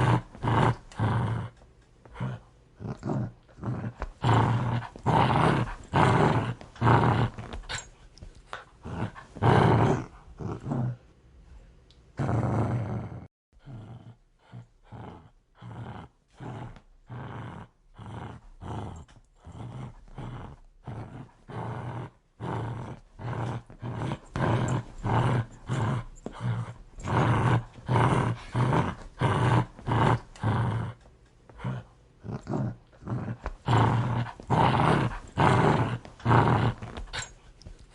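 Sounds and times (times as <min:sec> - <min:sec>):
dog growling: 0:00.0 - 0:07.9, 0:08.5 - 0:11.0, 0:12.2 - 0:37.4.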